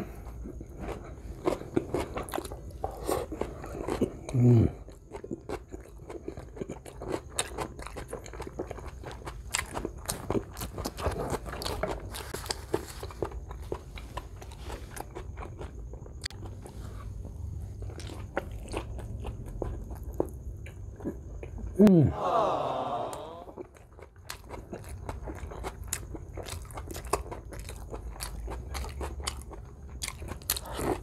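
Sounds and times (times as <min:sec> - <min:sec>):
man chewing: 0:00.0 - 0:21.7, 0:23.4 - 0:31.0.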